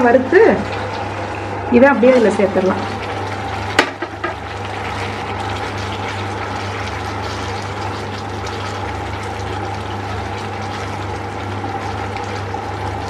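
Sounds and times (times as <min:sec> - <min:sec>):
steady low hum: 0:00.0 - 0:13.0
sauce simmering in a frying pan: 0:00.5 - 0:13.0.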